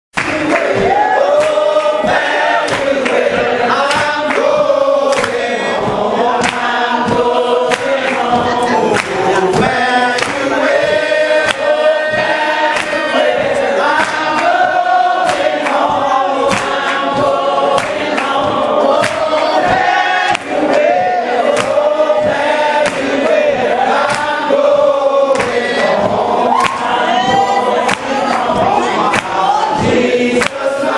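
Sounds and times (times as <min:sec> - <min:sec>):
congregation singing a hymn: 0:00.2 - 0:30.9.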